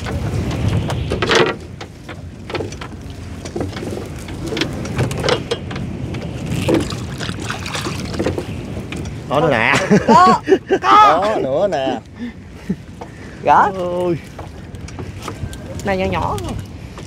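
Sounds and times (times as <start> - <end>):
water splashing and dripping: 0.0 - 9.4, 12.1 - 17.0.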